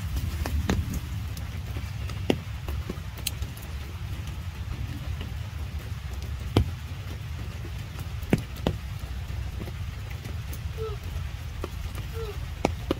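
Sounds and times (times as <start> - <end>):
rain drops ticking on puddles: 0.0 - 12.9
steady low rumble: 0.0 - 12.9.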